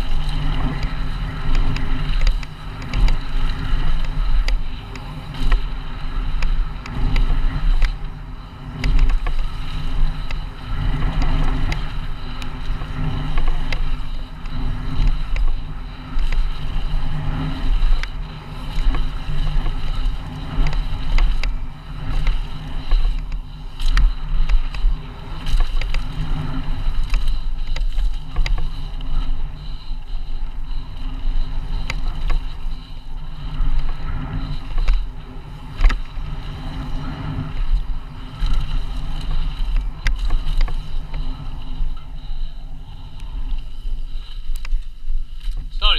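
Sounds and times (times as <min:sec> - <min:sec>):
bike rattling over bumps: 0:00.0 - 0:45.9
wind buffeting microphone: 0:00.0 - 0:45.9.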